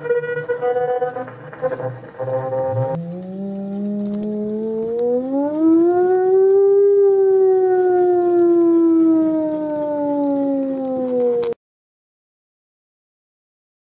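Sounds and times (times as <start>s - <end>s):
hand-cranked siren wailing: 0.0s - 11.6s.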